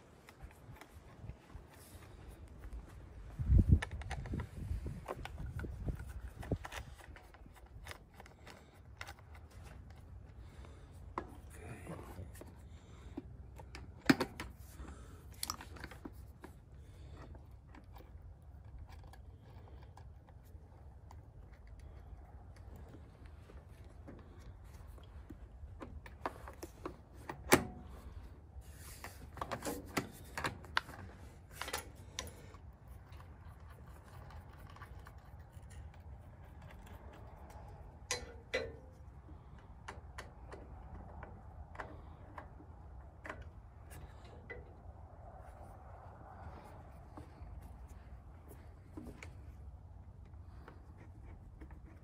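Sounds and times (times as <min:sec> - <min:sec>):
clicks and taps on winch controls: 0:00.2 - 0:11.6, 0:12.3 - 0:28.3, 0:29.1 - 0:44.9.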